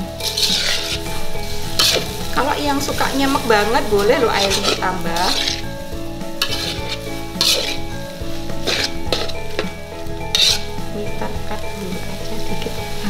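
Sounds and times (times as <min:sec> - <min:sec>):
metal spatula scraping wok: 0:00.0 - 0:13.0
sizzling in hot pan: 0:00.0 - 0:13.0.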